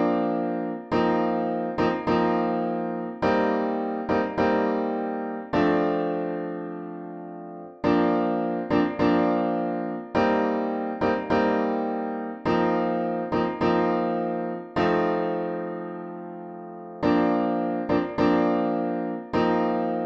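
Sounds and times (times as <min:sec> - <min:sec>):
piano chords ringing: 0:00.0 - 0:20.0.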